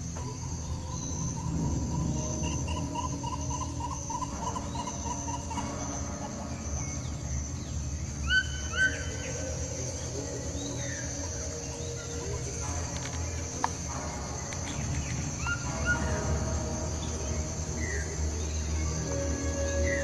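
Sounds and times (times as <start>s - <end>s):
birds chirping: 0.0s - 20.0s
high-pitched insect whine: 0.0s - 20.0s.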